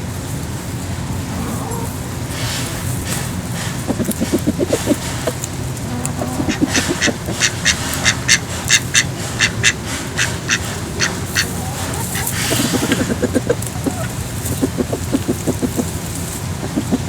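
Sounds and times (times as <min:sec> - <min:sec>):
ducks quacking: 0:01.2 - 0:17.0.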